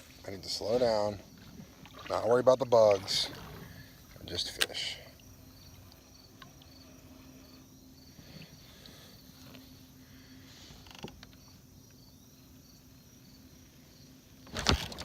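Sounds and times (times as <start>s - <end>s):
faint insect chirping: 0.0s - 15.0s.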